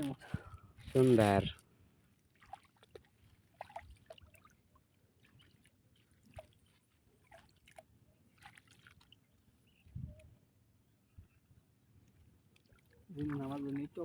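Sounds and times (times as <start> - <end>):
water drips and splashes: 0.0 - 10.3, 12.0 - 14.0.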